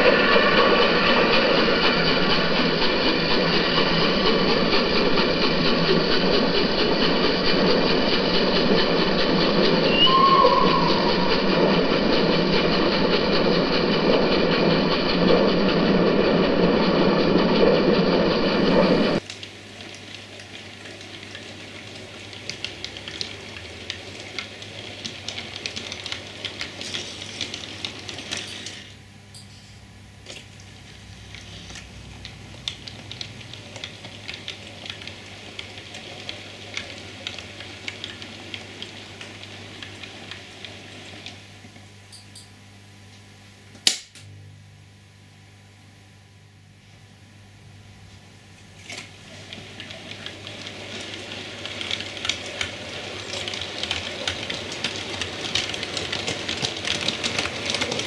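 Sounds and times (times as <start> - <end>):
model train wheels clicking on track: 0.0 - 29.5, 30.3 - 41.4, 48.8 - 58.0
steam locomotive running: 0.0 - 41.5, 48.8 - 58.0.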